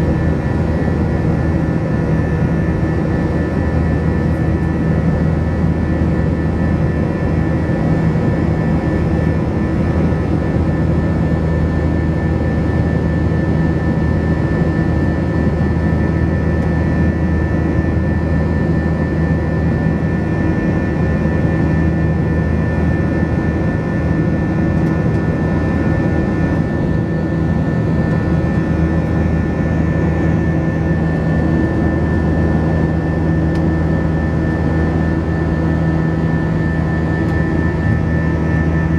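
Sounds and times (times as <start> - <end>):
jet engines roaring: 0.0 - 38.9
steady humming tones: 0.0 - 38.9.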